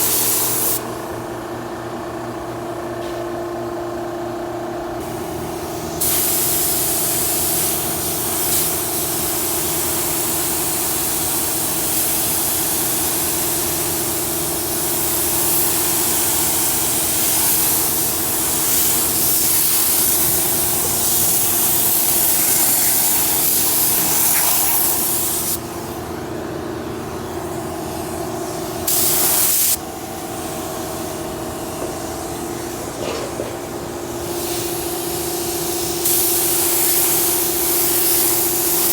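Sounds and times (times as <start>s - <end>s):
spray gun hissing: 0.0s - 0.8s, 5.0s - 26.0s, 27.5s - 33.0s, 34.2s - 38.9s.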